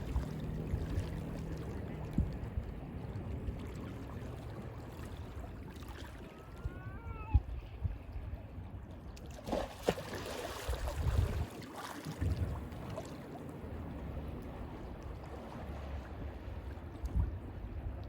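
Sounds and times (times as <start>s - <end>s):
small waves lapping at shore: 0.0s - 18.0s.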